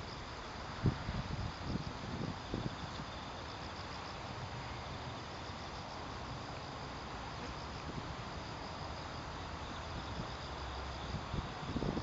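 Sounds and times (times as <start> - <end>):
insects chirping: 0.0 - 12.0
outdoor hiss: 0.0 - 12.0.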